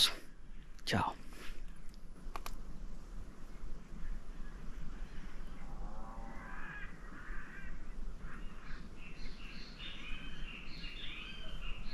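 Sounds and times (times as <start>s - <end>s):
wild birds calling: 0.0s - 11.9s.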